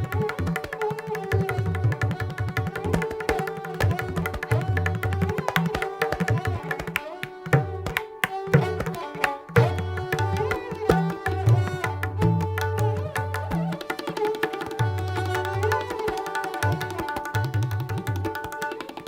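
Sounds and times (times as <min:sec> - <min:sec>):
sarangi melody: 0:00.0 - 0:19.0
tabla drumming: 0:00.0 - 0:19.0.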